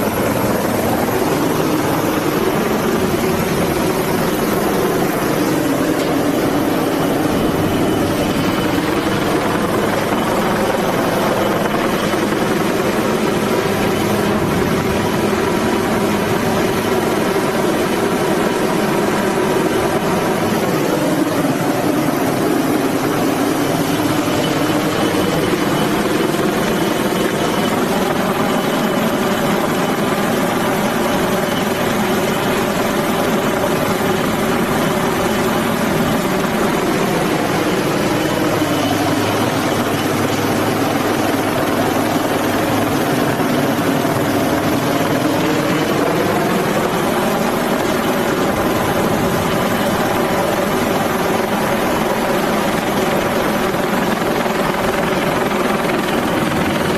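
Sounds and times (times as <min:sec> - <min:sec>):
helicopter rotor and turbine noise: 0:00.0 - 0:56.9.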